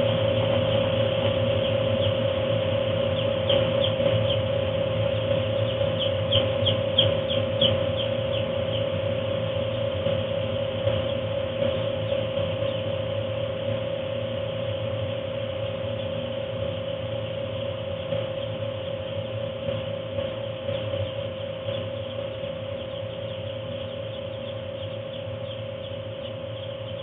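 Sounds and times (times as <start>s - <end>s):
chicks peeping: 0.0s - 10.1s, 10.8s - 12.9s, 15.6s - 27.0s
heater blowing air humming: 0.0s - 27.0s.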